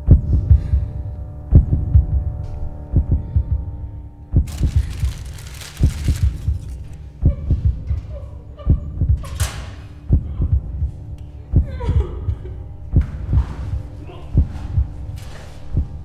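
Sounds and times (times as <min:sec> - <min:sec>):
heartbeat thumps: 0:00.0 - 0:16.0
steady low hum: 0:00.0 - 0:16.0.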